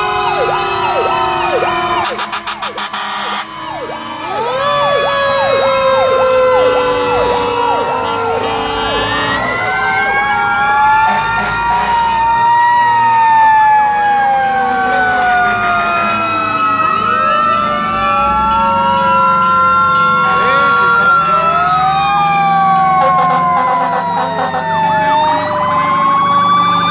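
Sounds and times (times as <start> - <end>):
fire engine siren wail: 0.0 - 26.9
fire engine siren yelp: 0.0 - 26.9.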